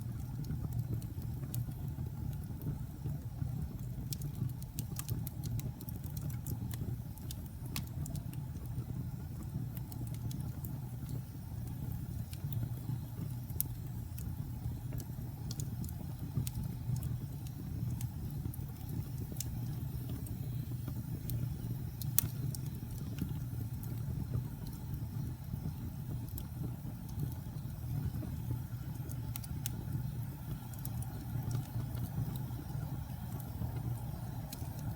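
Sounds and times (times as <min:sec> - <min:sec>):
fire crackling and popping: 0:00.0 - 0:34.9
fire flames rumbling: 0:00.0 - 0:34.9.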